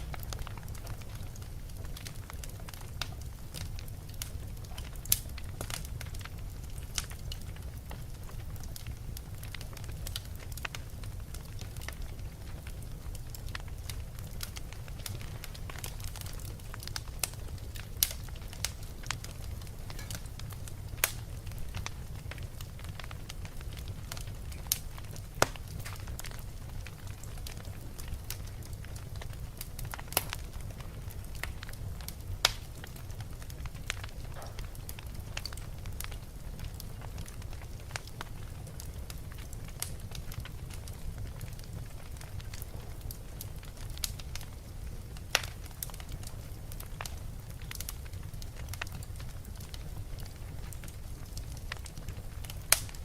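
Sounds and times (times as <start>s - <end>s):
low rumble of burning: 0.0s - 53.0s
sharp snaps of fire: 0.0s - 53.0s
wood fire crackling: 0.0s - 53.0s.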